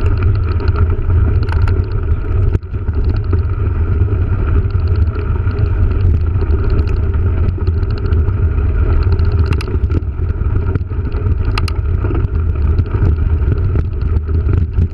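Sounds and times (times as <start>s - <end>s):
mountain bike rattling on dirt: 0.0s - 14.9s
sharp bike clicks: 0.0s - 14.9s
wind rumble on microphone: 0.0s - 14.9s.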